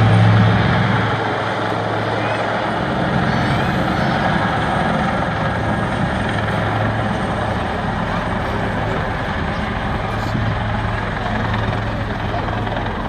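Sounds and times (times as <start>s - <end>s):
helicopter rotors rushing: 0.0s - 13.0s.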